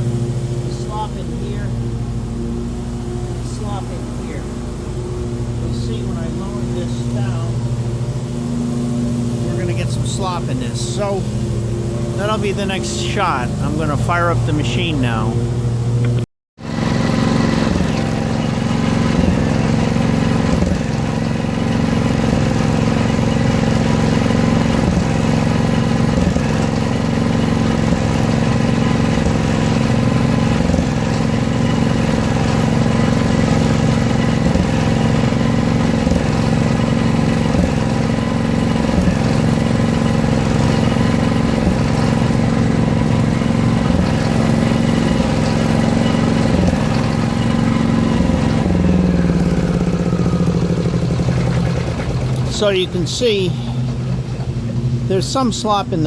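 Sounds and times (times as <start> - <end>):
backhoe engine running: 0.0 - 56.0.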